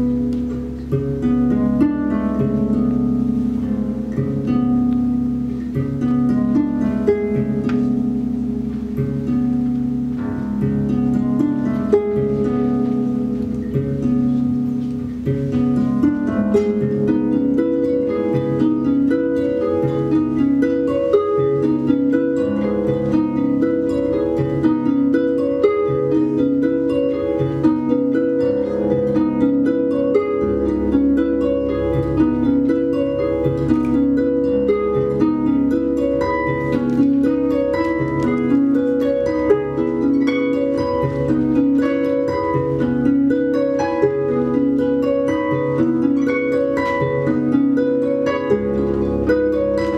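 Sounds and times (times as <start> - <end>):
harps playing: 0.0 - 49.9.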